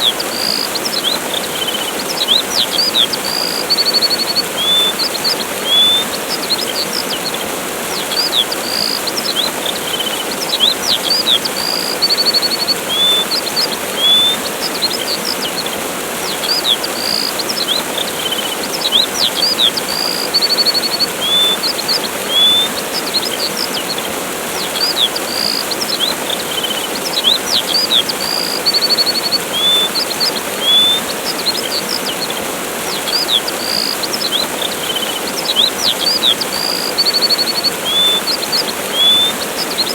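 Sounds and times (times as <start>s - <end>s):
small birds chirping: 0.0s - 39.9s
waterfall rushing: 0.0s - 39.9s.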